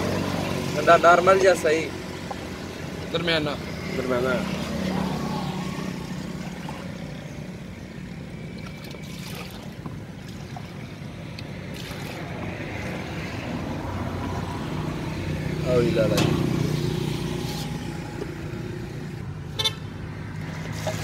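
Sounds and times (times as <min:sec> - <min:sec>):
outdoor noise: 0:00.0 - 0:21.0.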